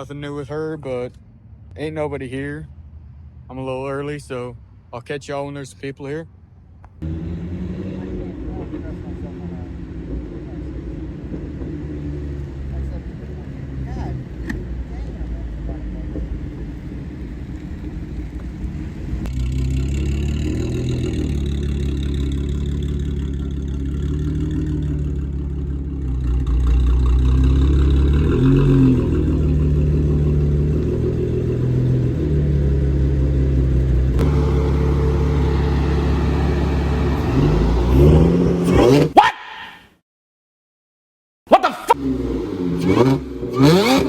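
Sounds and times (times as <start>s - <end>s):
car engines idling and revving: 0.0s - 39.2s, 41.7s - 44.0s.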